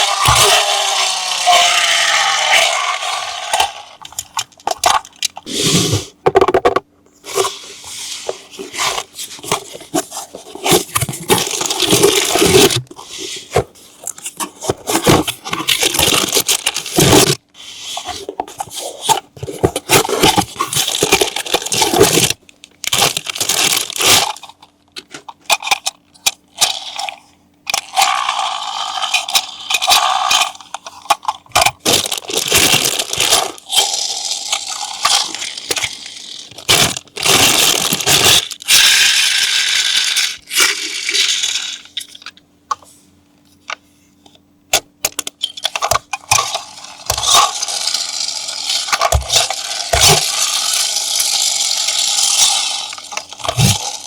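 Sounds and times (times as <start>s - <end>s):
packaging scraping and tearing: 0.0s - 6.2s, 7.3s - 26.0s, 27.8s - 42.2s, 45.8s - 54.0s.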